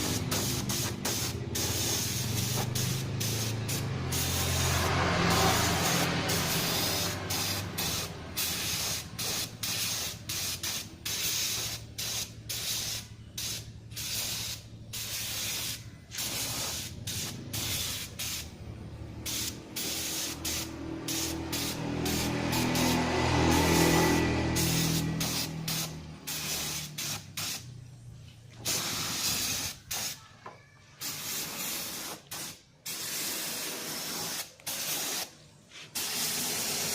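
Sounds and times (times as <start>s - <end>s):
bursts of hissing spray: 0.0s - 36.9s.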